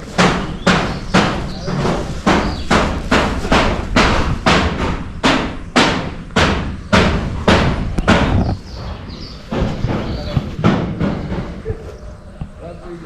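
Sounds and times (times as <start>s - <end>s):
hammer blows ringing: 0.0s - 13.0s.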